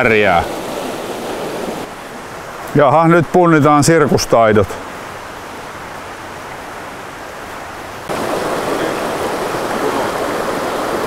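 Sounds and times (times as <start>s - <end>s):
flowing stream: 0.0s - 11.0s
river rapids rushing: 0.0s - 11.0s.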